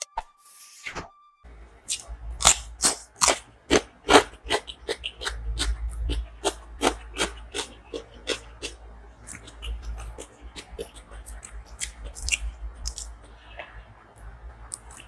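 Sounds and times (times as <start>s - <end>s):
steady low hum: 1.5s - 15.0s
wet chewing and smacking: 1.9s - 13.8s, 14.7s - 15.0s.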